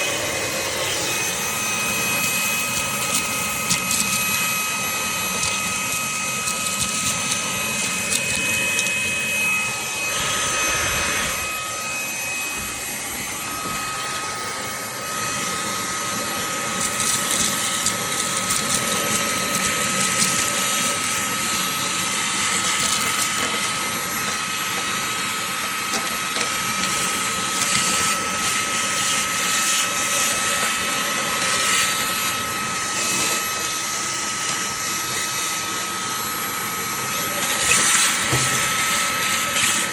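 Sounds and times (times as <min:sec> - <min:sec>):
handheld vacuum whining: 0:00.0 - 0:39.9.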